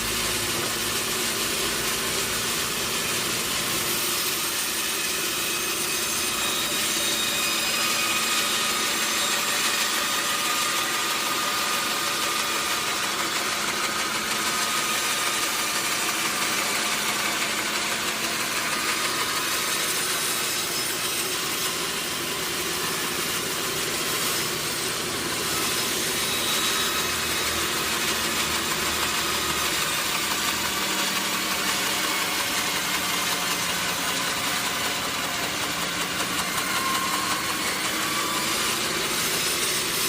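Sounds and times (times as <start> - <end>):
sawmill machinery drone: 0.0 - 40.0.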